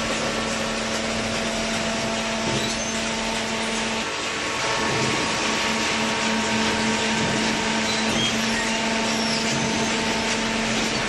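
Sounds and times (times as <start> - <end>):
hydraulic baler drone: 0.0 - 11.0.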